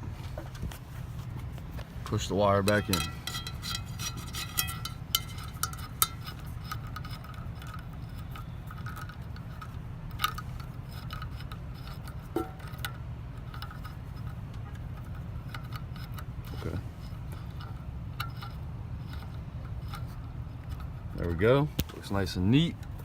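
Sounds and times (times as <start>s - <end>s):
steady low hum: 0.0s - 23.0s
clicks and clinks of wiring: 2.0s - 23.0s.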